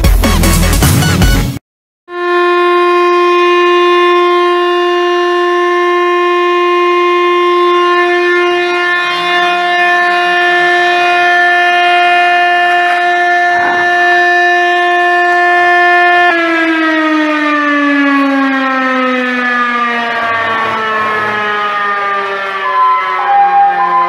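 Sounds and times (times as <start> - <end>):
fire alarm siren steady tone: 2.1 - 24.0.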